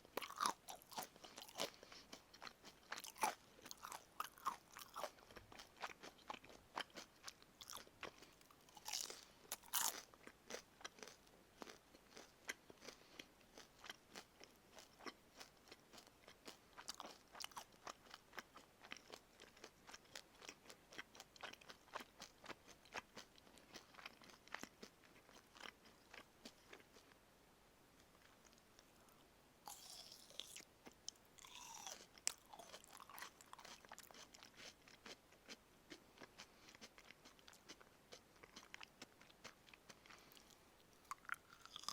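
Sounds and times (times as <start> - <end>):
crunchy chewing of fried chicken: 0.0 - 27.2, 28.1 - 41.9.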